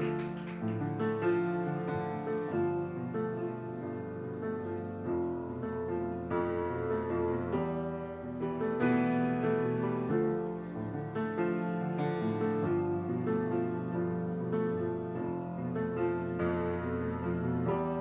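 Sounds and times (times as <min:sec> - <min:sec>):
slow solo piano chords: 0:00.0 - 0:18.0.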